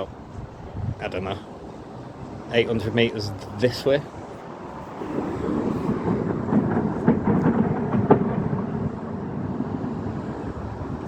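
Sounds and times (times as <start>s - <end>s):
distant low rolling rumble: 0.0s - 11.0s.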